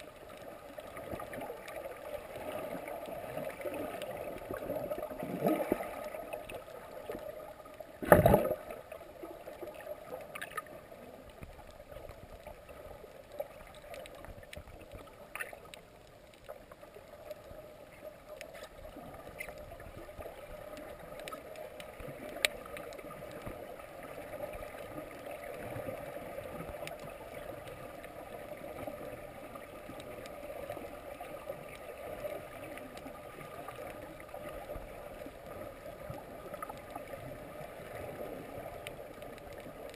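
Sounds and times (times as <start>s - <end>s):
faint clicks: 0.0s - 39.9s.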